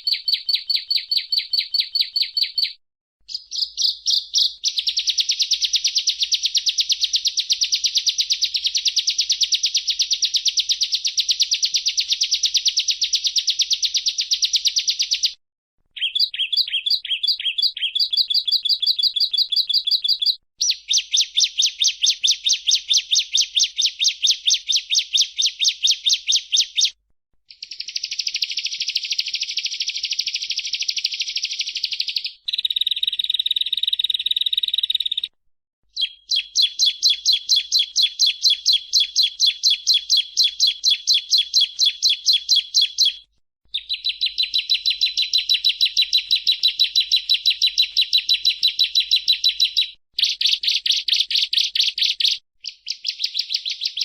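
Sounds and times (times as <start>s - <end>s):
bird singing high repeated notes: 0.0s - 15.3s, 16.0s - 35.3s, 35.9s - 54.0s.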